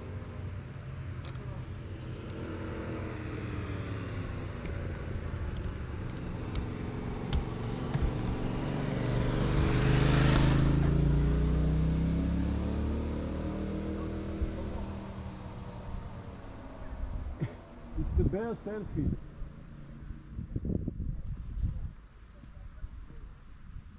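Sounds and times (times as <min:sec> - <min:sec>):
traffic passing: 0:00.0 - 0:21.4
vehicle engine running: 0:01.0 - 0:20.6.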